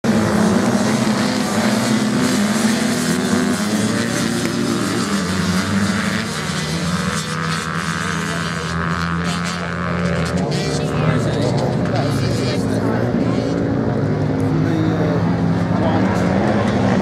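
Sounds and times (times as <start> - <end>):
dirt bike engines racing past: 0.0 - 17.0.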